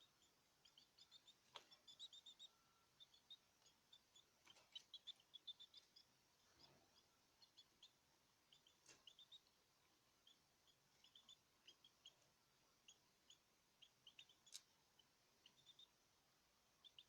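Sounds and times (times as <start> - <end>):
cage birds chirping: 0.0 - 17.0.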